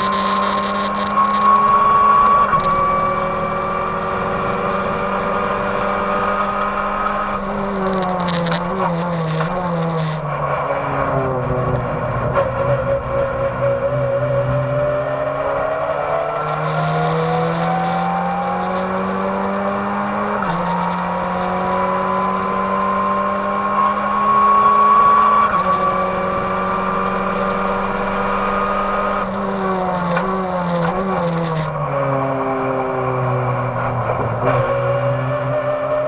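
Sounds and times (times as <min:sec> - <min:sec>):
race car engine accelerating: 0:00.0 - 0:36.0.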